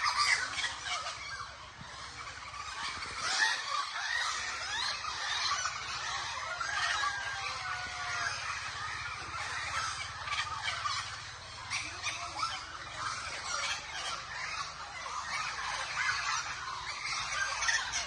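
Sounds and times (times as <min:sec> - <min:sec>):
flock of crows calling: 0:00.0 - 0:18.0.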